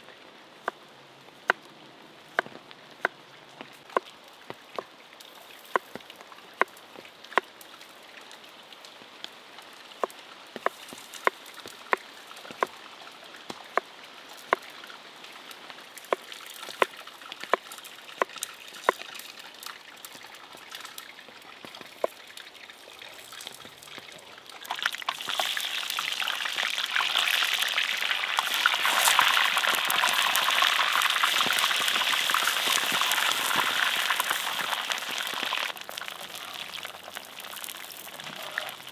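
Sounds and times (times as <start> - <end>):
crackling sizzle of food: 3.6 - 38.9.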